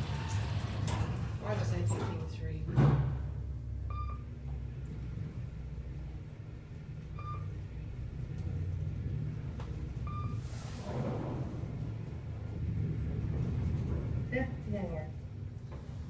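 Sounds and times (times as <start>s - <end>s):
elevator low rumble: 0.0s - 16.0s.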